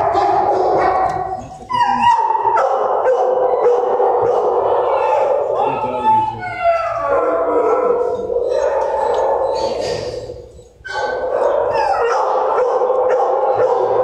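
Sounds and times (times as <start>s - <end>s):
dogs barking howling and whining: 0.0s - 14.0s.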